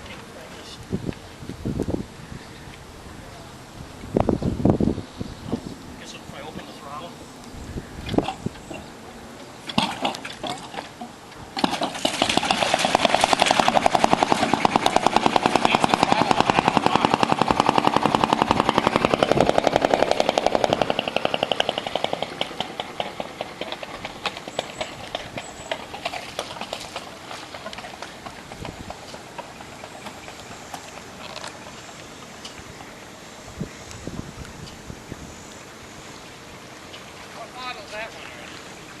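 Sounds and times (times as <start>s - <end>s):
boat engine putting: 0.0s - 39.0s.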